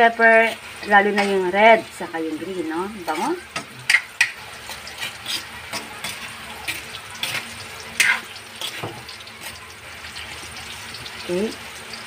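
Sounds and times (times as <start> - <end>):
vegetables sizzling in oil: 0.0 - 12.0
metal spatula scraping a wok: 0.2 - 10.5.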